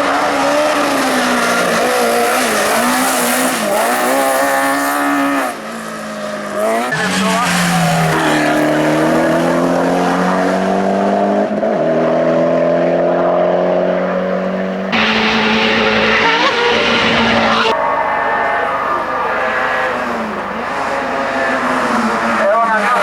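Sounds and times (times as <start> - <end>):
race car engine at full throttle: 0.0 - 23.0.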